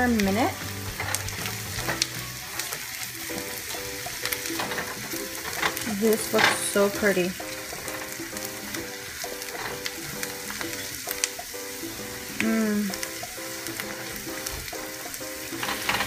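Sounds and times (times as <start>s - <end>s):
background music: 0.0s - 16.0s
food sizzling in a skillet: 0.0s - 16.0s
spatula scraping a pan: 0.2s - 12.3s, 13.0s - 16.0s.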